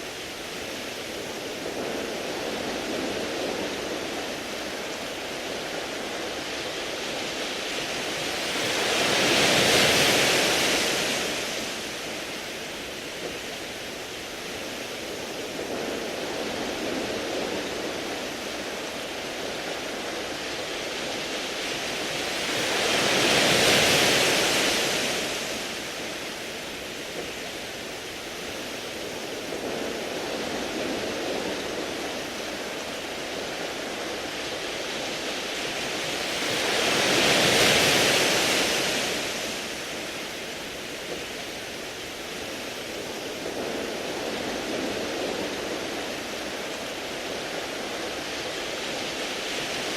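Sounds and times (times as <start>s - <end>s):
waves washing over pebbles: 0.0s - 49.9s.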